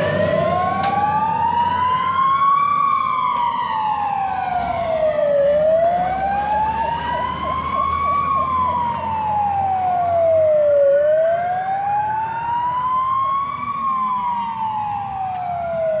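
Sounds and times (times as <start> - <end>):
fast warbling siren: 0.0 - 16.0
fire engine siren wailing: 0.0 - 16.0
truck engine rumble: 0.0 - 16.0.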